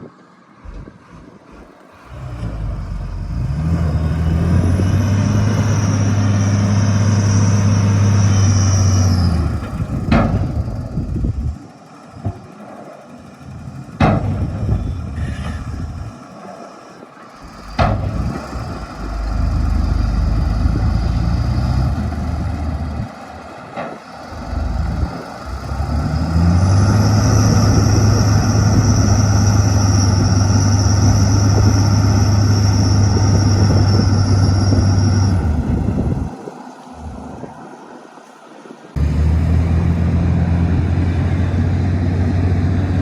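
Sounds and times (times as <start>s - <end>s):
bulldozer diesel engine revving: 0.6s - 37.5s, 39.0s - 43.0s.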